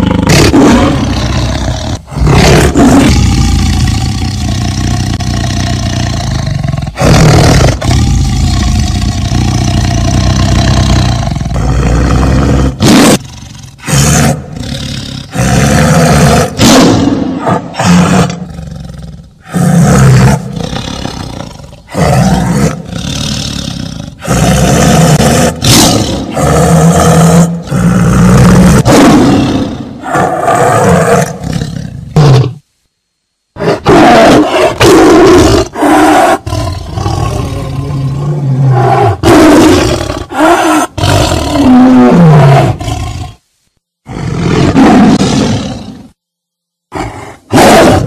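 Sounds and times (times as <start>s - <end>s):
tiger roaring: 0.0s - 32.6s, 33.6s - 43.4s, 44.0s - 46.2s, 46.9s - 48.0s.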